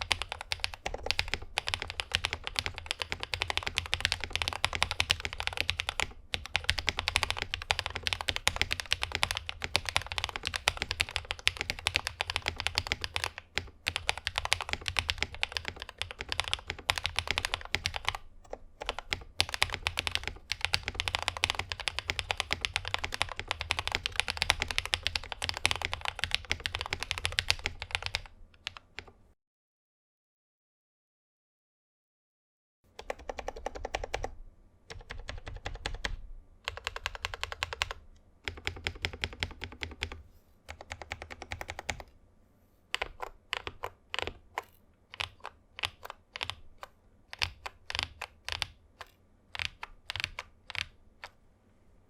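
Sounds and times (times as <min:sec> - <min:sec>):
mechanical keyboard typing: 0:00.0 - 0:29.2, 0:32.9 - 0:42.1, 0:42.9 - 0:51.4.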